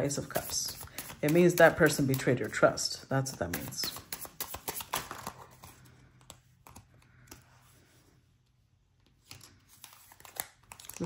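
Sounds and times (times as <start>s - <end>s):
cards shuffling: 0.0s - 7.6s, 9.0s - 11.0s.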